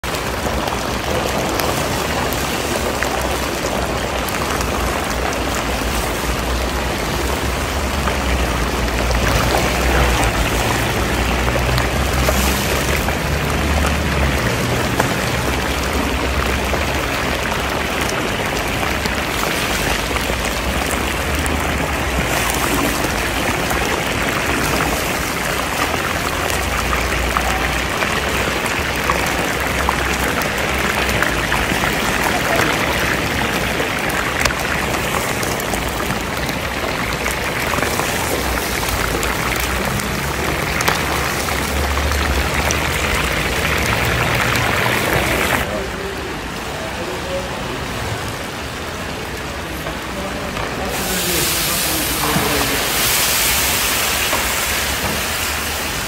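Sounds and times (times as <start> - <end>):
meat sizzling in hot oil: 0.3 - 45.6, 50.9 - 56.0.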